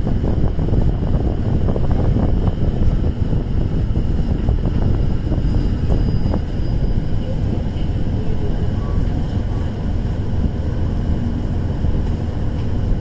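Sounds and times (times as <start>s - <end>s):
diesel engine rumbling: 0.0s - 13.0s
train wheels on track: 0.0s - 13.0s.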